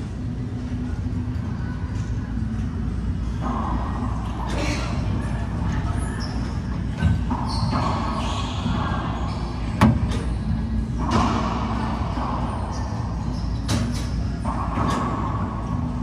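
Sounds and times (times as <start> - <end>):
court background noise: 0.0 - 16.0.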